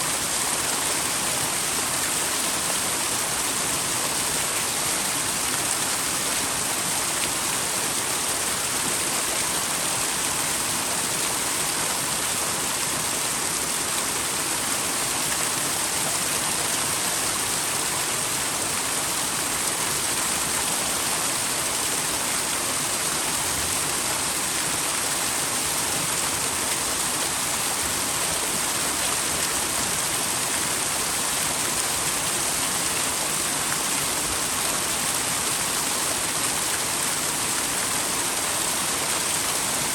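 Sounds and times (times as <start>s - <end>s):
waterfall splashing into stream: 0.0s - 39.9s.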